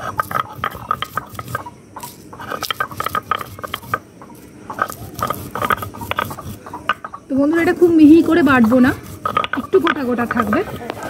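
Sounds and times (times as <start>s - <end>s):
stone grinding chillies: 0.0s - 11.0s.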